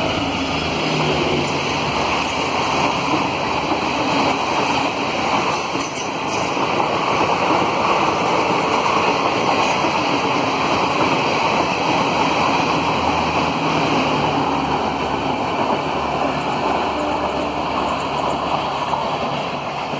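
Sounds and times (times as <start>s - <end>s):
train wheel and rail noise: 0.0s - 19.9s.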